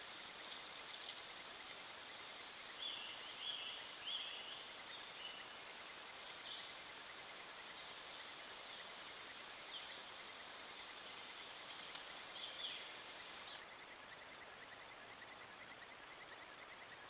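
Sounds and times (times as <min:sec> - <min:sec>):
faint steady hiss: 0:00.0 - 0:17.0
bird chirps: 0:00.6 - 0:17.0.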